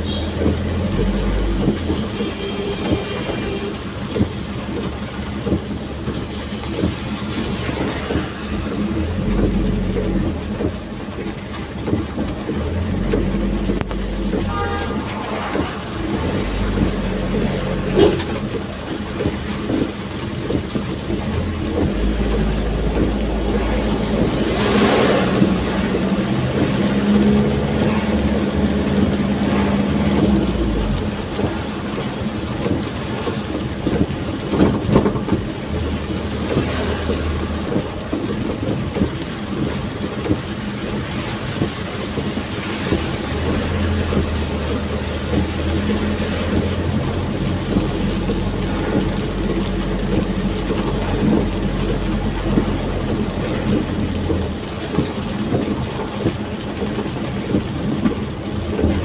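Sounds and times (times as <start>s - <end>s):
rain hissing: 0.0s - 59.0s
truck engine humming: 0.0s - 59.0s
wet tyres on road: 0.0s - 59.0s.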